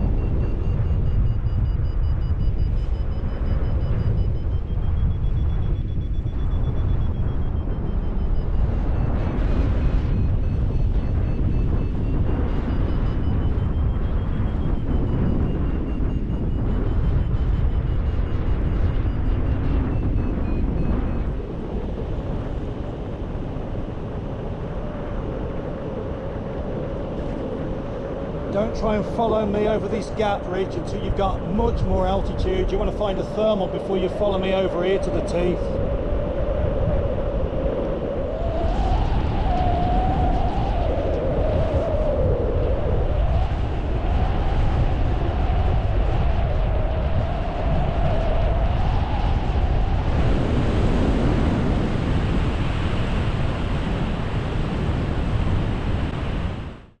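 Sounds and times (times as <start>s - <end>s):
steady whistling tone: 0.0s - 52.4s
wind buffeting microphone: 0.0s - 57.0s.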